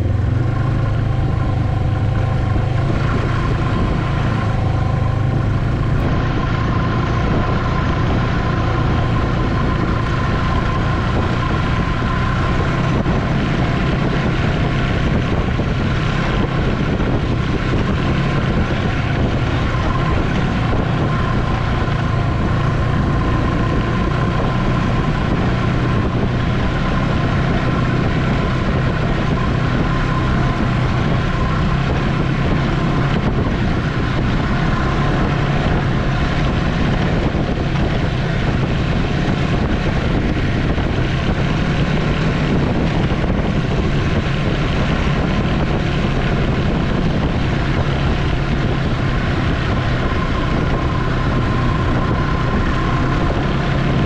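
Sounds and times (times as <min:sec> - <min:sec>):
snowmobile engine and track drone: 0:00.0 - 0:54.0.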